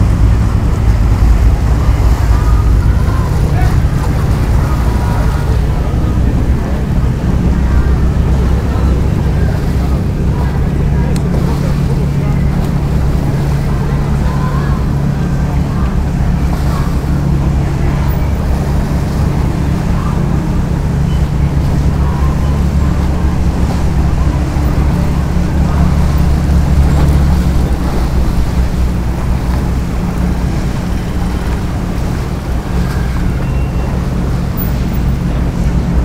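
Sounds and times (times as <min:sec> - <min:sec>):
boat engine droning: 0:00.0 - 0:36.0
water wash: 0:00.0 - 0:36.0.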